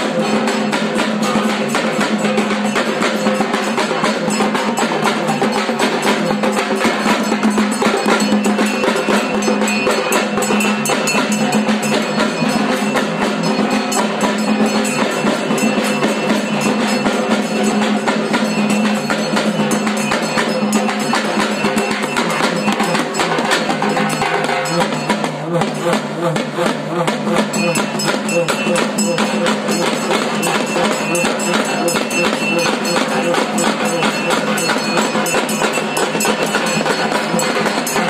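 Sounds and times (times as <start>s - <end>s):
fast stick-beaten drumming: 0.0s - 38.0s.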